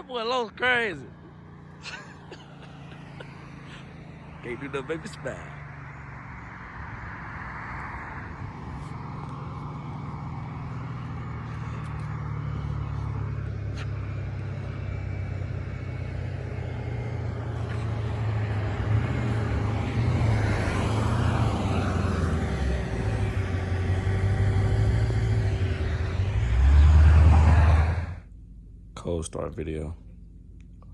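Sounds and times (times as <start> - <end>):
car engine deep exhaust rumble: 1.0 - 30.9.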